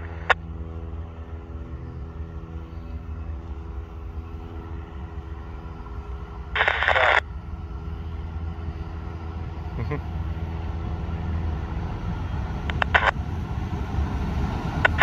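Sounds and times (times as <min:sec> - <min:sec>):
diesel train approaching: 0:00.0 - 0:15.0.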